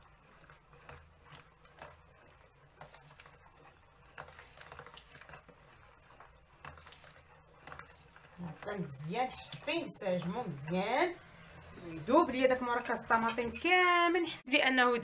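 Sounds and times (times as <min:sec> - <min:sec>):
spoon stirring sauce in pot: 0:00.0 - 0:14.3.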